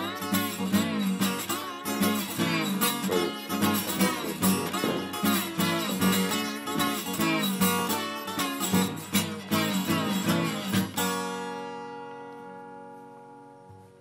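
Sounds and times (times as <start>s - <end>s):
blues country guitar music: 0.0s - 13.9s.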